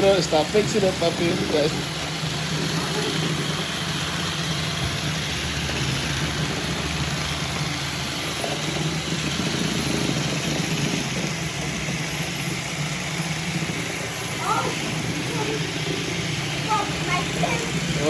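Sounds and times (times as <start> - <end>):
robot vacuums whirring: 0.0 - 18.0.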